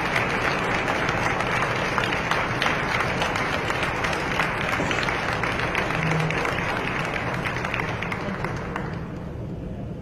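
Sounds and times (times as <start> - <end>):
spectators applauding: 0.0 - 9.6
crowd noise: 0.0 - 10.0.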